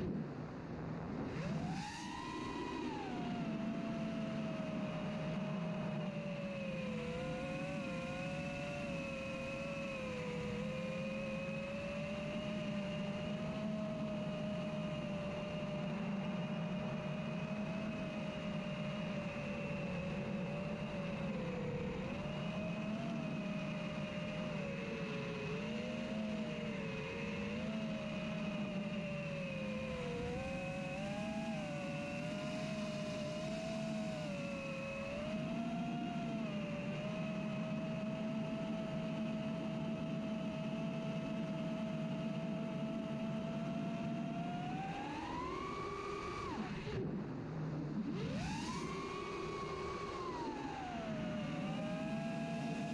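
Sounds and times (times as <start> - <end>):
quadcopter motors whining: 1.3 - 47.0, 48.1 - 52.9.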